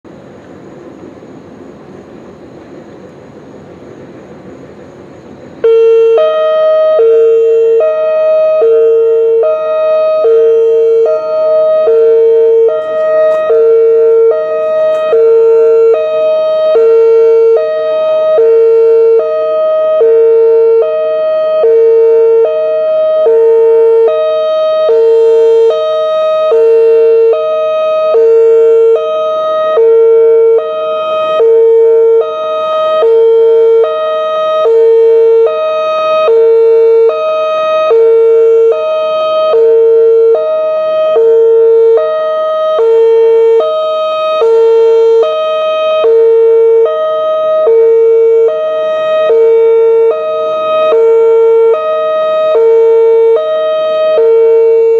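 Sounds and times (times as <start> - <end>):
hi-lo warning siren: 0.1 - 54.9.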